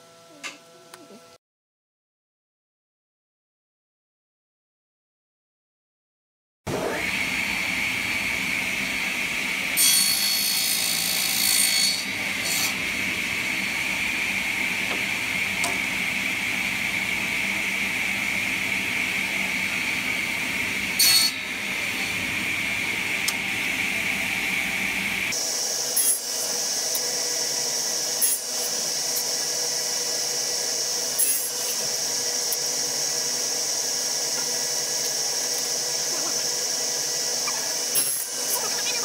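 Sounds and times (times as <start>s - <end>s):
table saw whining: 6.7s - 39.0s.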